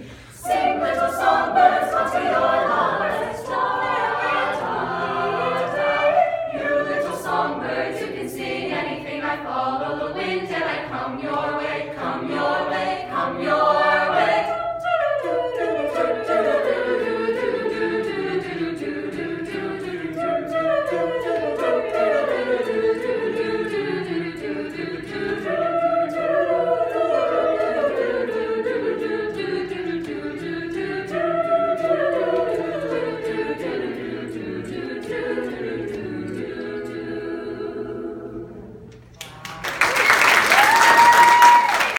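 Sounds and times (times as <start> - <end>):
choir singing a cappella: 0.0 - 39.0.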